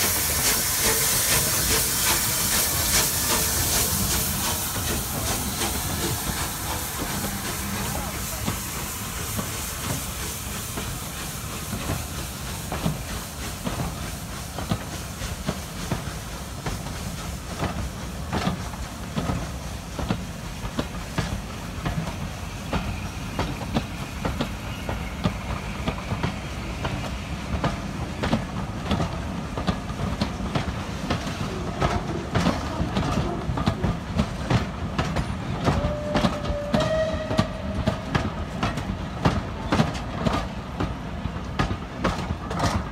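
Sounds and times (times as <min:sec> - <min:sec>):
train rumble: 0:00.0 - 0:42.9
train wheels clickety-clack: 0:00.0 - 0:42.9.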